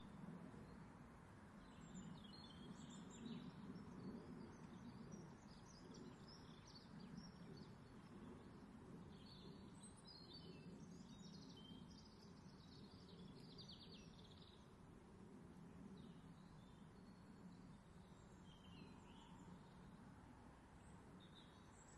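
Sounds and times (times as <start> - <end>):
faint birds chirping: 1.5 - 21.9.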